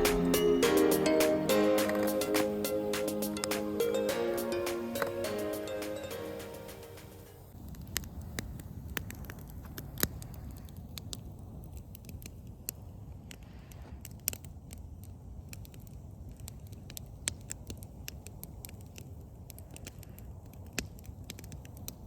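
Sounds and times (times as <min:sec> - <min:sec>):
campfire crackling pops and snaps: 0:00.0 - 0:05.5, 0:07.0 - 0:22.0.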